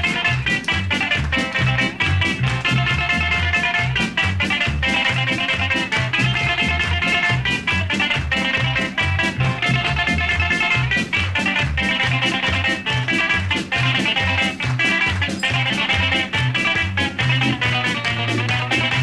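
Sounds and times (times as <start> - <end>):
bouzouki melody: 0.0 - 19.0
drum kit beat: 0.0 - 19.0.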